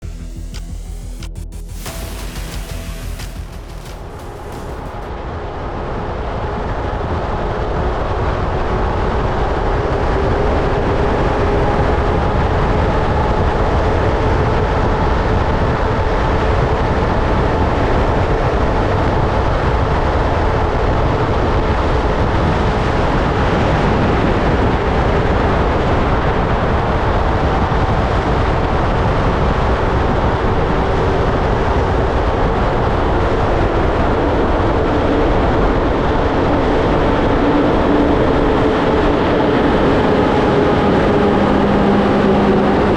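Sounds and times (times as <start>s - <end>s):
rush of high-speed wind: 5.0s - 42.9s.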